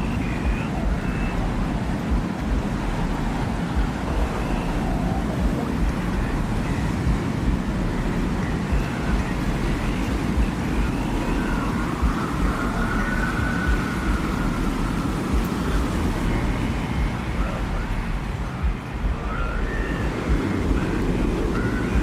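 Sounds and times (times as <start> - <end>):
faint thin wind whistle: 0.0 - 22.0
gusting desert wind rumble: 0.0 - 22.0.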